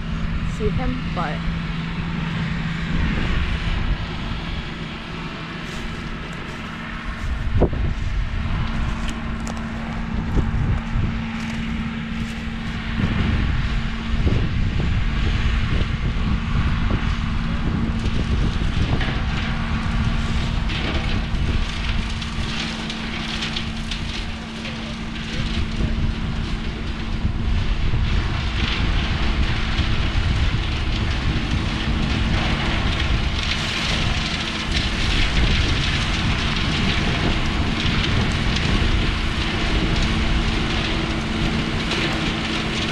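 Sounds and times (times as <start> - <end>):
brush chopper shredding branches: 0.0 - 42.9
tractor engine hum: 0.0 - 42.9.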